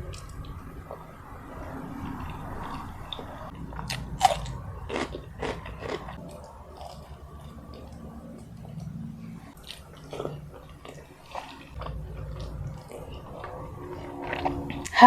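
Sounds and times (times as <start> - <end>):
biting and chewing crunchy food: 0.0 - 14.9.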